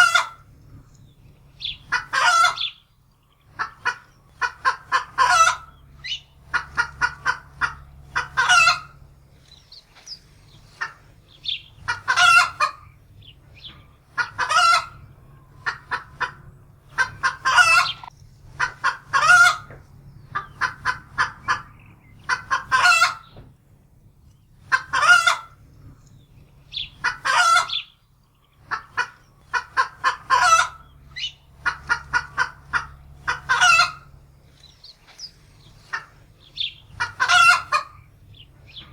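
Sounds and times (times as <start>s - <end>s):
hen clucking and squawking: 0.0s - 0.8s, 1.4s - 23.5s, 24.4s - 38.9s.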